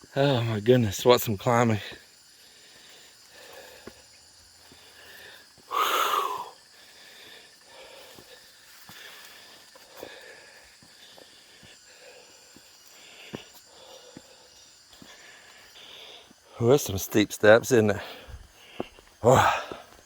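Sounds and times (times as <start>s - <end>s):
man breathing hard and wheezing: 1.9s - 16.6s, 17.9s - 20.0s.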